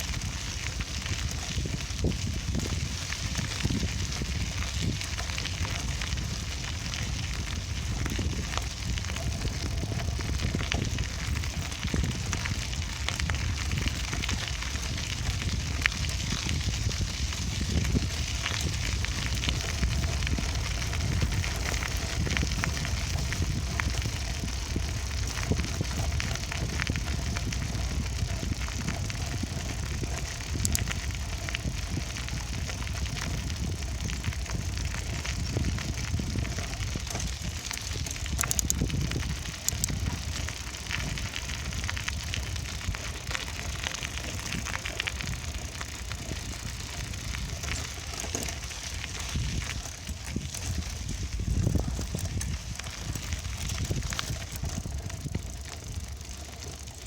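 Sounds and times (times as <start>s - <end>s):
bicycle tyres rolling on path: 0.0s - 57.0s
bike rattling: 0.0s - 57.0s.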